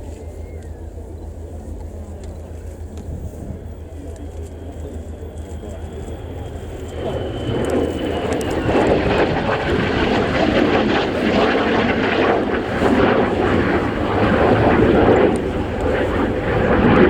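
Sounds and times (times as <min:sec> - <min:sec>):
jet aircraft roar: 0:00.0 - 0:17.0.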